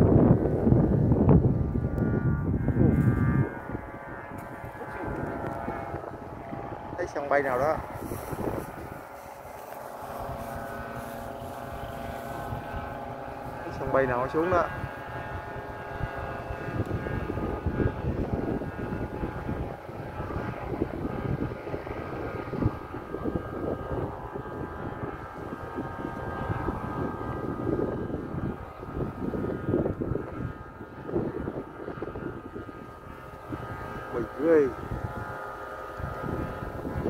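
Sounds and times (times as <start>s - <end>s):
droning hum of held tones: 0.0s - 37.0s
wind buffeting microphone: 0.0s - 37.0s.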